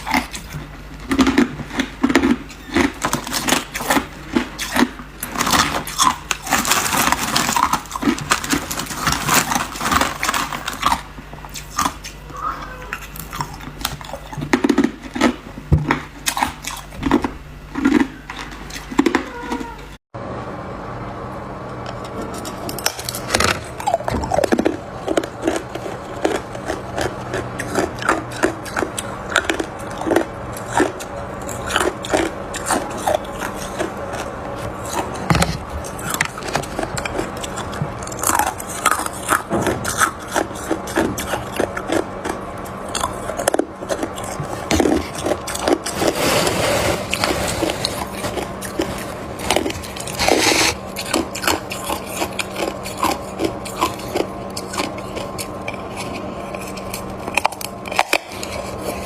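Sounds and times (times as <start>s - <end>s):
ice being chewed: 0.0s - 19.7s, 22.0s - 59.0s.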